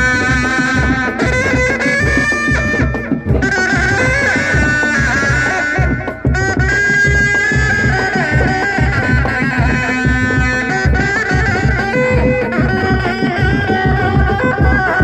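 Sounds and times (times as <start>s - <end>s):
frame drums beating: 0.0s - 15.0s
shawm melody: 0.0s - 15.0s.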